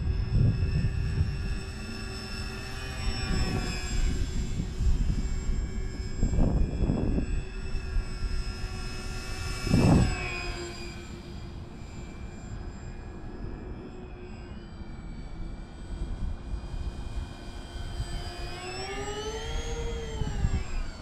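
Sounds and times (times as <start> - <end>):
model plane motors whining: 0.0 - 21.0.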